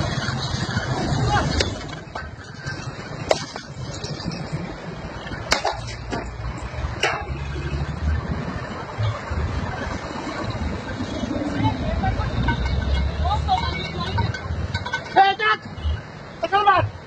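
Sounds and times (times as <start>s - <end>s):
road vehicle rumble: 0.0s - 17.0s.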